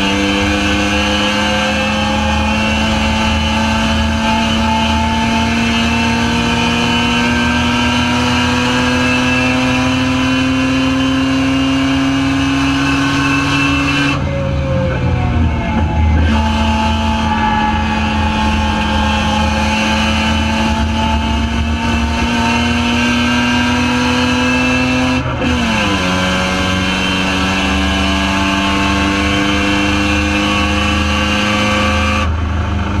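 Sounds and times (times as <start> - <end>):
race car rotary engine revving: 0.0 - 33.0.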